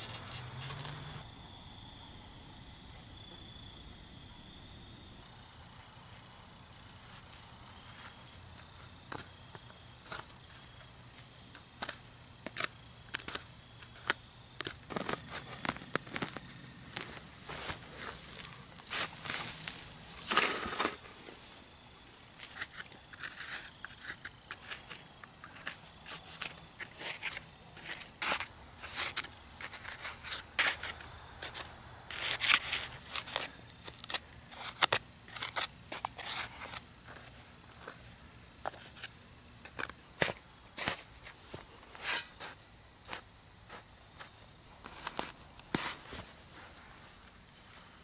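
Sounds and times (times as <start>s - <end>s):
short scrapes crunches and clicks: 0.0s - 1.2s, 7.0s - 21.6s, 22.4s - 48.0s.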